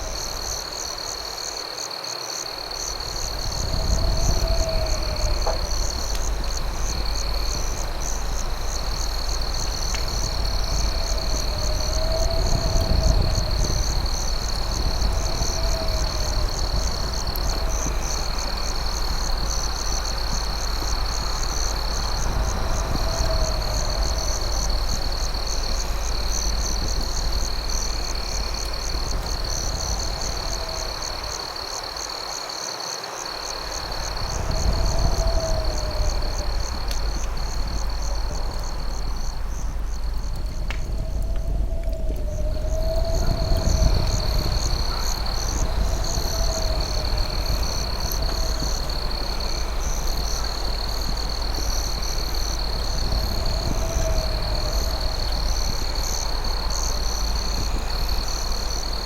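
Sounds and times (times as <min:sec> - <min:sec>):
crickets trilling: 0:00.0 - 0:59.0
rising and falling insect call: 0:00.0 - 0:59.0
steady low rumble: 0:03.0 - 0:31.9, 0:33.7 - 0:59.0.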